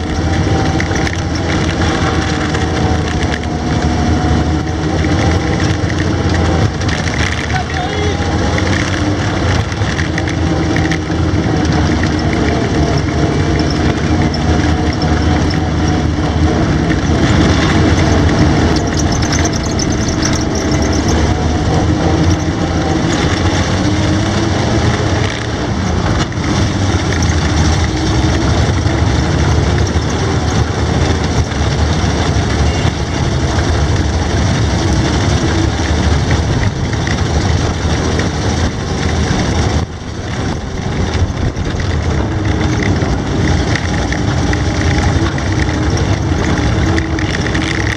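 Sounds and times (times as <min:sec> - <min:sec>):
tracked vehicle engine running: 0:00.0 - 0:47.9.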